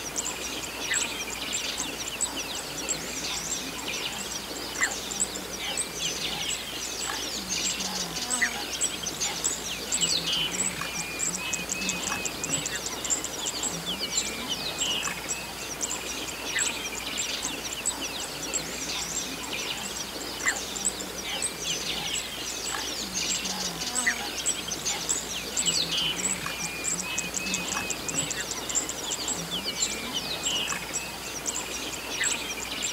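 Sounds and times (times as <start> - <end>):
wild birds chirping and calling: 0.0 - 32.9.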